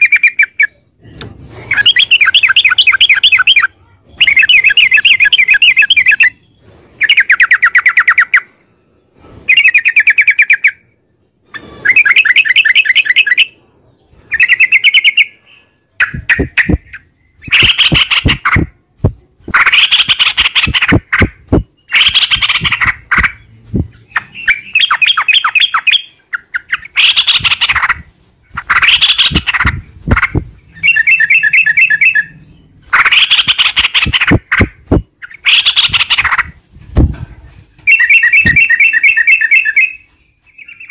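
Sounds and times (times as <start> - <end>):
bulbul singing trilled song: 0.0 - 0.9, 1.6 - 8.6, 14.2 - 36.6, 37.8 - 40.9.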